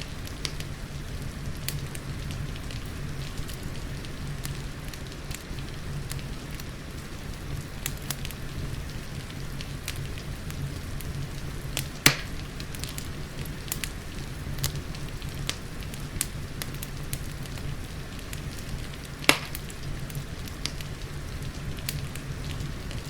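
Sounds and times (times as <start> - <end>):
rain hissing: 0.0 - 23.0
wood fire crackling and popping: 0.0 - 23.0.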